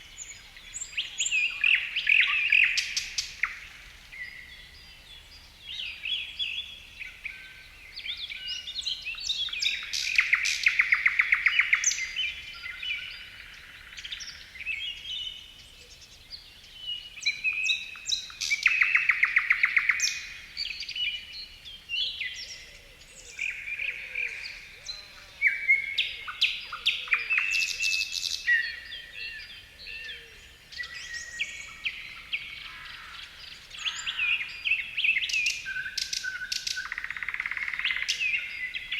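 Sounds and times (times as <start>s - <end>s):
birds singing and calling: 0.0s - 38.9s.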